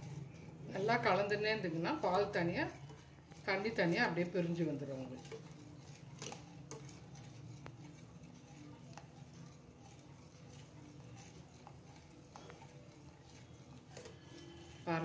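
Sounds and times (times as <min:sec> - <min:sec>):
ladle stirring in a pot: 0:00.0 - 0:15.0.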